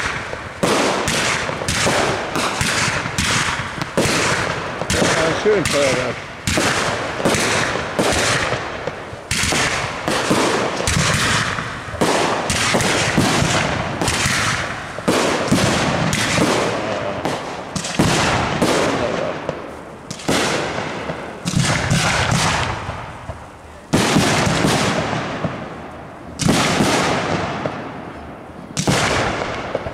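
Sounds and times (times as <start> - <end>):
fireworks launching and bursting: 0.0 - 29.9.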